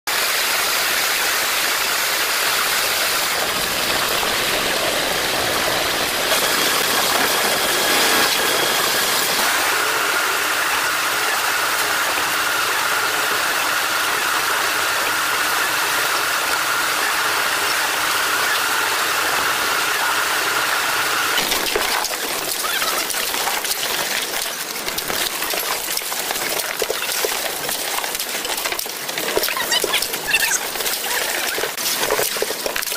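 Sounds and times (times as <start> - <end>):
construction machinery drone: 0.1 - 32.9.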